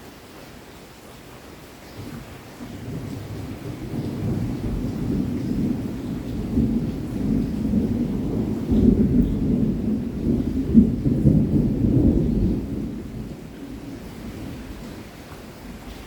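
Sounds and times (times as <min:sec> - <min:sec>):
steady rain: 0:00.0 - 0:16.0
distant thunder rumbling: 0:02.0 - 0:16.0.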